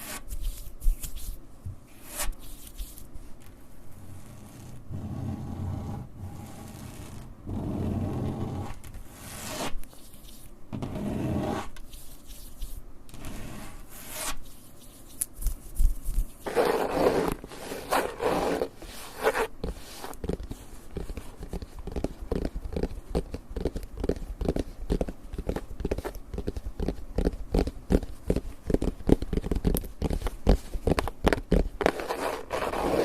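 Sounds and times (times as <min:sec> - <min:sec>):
close scratching strokes: 0:00.0 - 0:03.2, 0:03.9 - 0:33.0.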